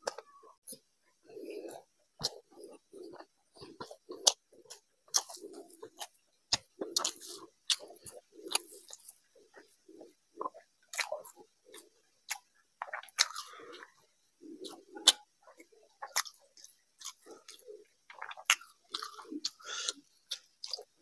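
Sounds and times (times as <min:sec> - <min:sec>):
man chewing: 0:00.0 - 0:21.0.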